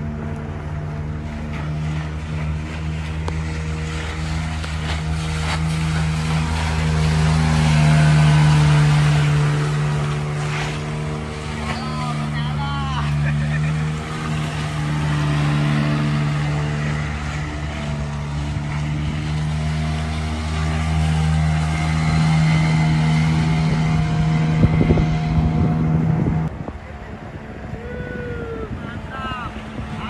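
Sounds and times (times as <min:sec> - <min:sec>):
water splashing: 0:00.0 - 0:27.0
outboard motor running: 0:00.0 - 0:30.0.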